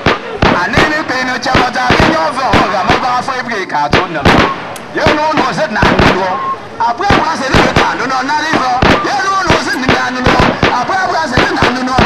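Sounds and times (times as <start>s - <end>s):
gunshot bangs: 0.0s - 12.0s.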